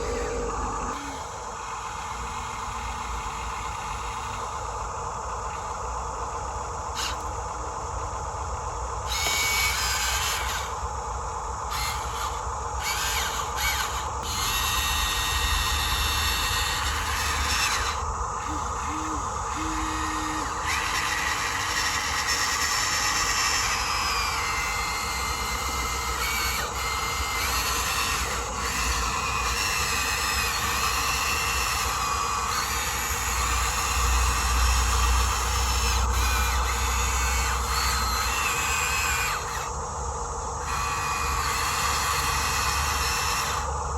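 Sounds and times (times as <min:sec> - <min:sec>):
small electric motors whining: 0:00.0 - 0:43.9.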